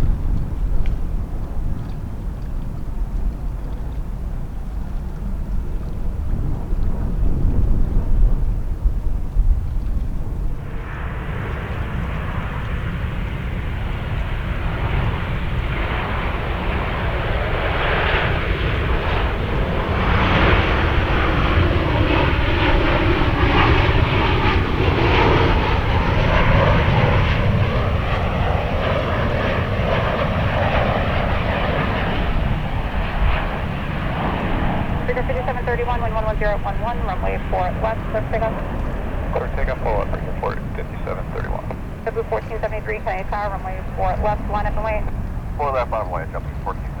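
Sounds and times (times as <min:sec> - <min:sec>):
jet airliner engines roaring: 0:04.2 - 0:47.0
jet engine whine: 0:05.9 - 0:47.0.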